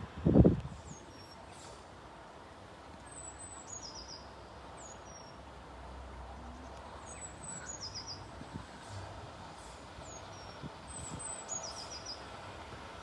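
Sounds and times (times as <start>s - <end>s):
steady outdoor hiss: 0.0s - 13.0s
songbird singing: 0.6s - 1.8s, 2.4s - 8.9s, 9.6s - 12.8s.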